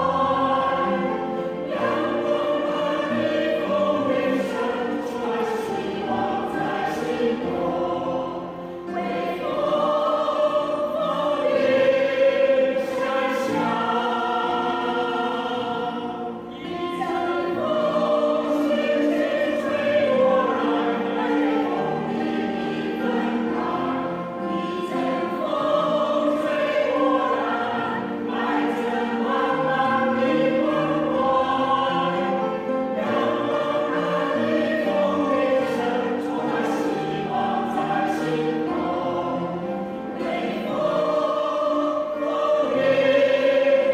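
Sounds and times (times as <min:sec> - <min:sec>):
choir singing slow chords: 0:00.0 - 0:43.9.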